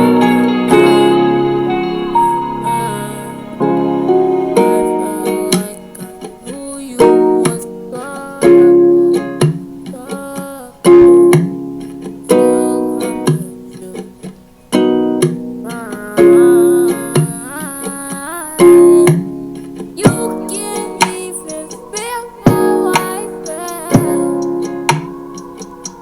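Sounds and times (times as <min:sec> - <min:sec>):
guitar chords ringing: 0:00.0 - 0:26.0.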